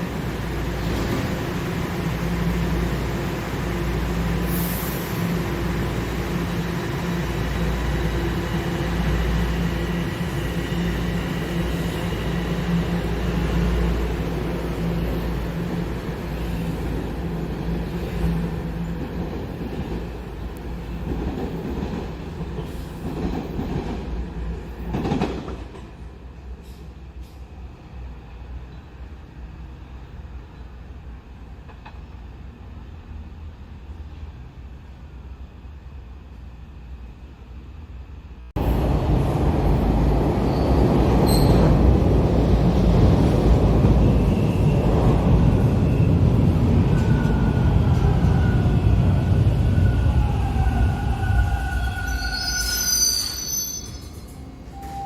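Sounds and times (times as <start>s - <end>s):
subway train running past: 0.0s - 55.0s.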